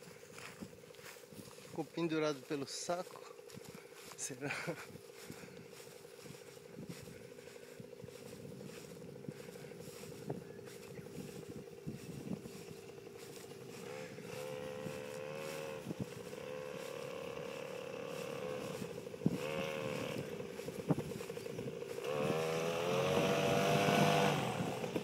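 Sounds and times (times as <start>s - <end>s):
paramotor engine throttling: 0.0s - 25.0s.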